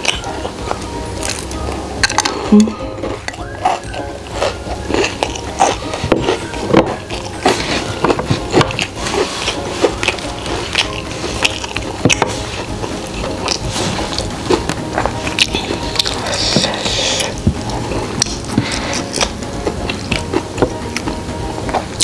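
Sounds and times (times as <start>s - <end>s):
chewing crispy fried chicken: 0.0s - 22.0s.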